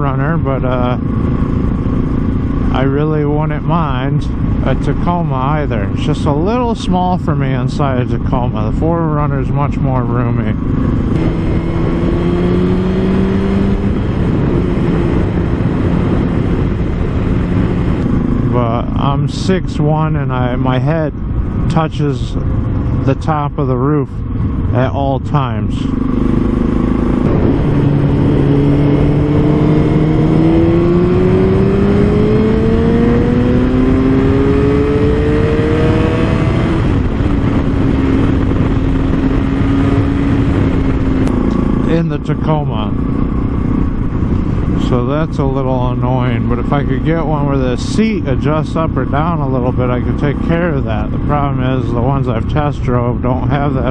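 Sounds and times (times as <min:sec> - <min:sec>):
motorcycle engine running: 0:00.0 - 0:53.9
wind rush on microphone: 0:00.0 - 0:53.9.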